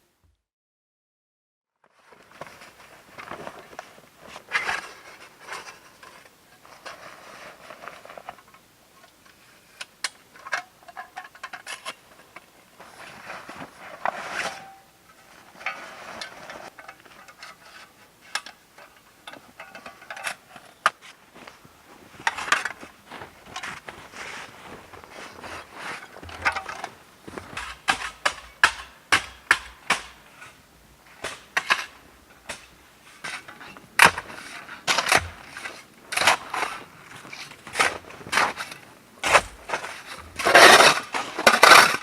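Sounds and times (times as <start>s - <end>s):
rustling and scraping: 1.8s - 28.9s, 29.7s - 42.0s.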